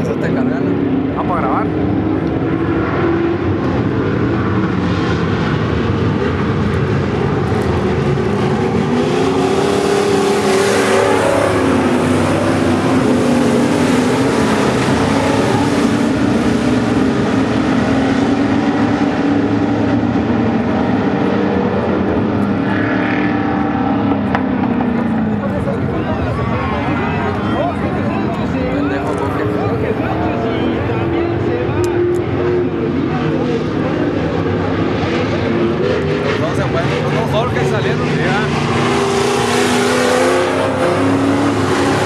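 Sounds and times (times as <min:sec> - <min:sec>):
race car engines running hard: 0:00.0 - 0:42.0.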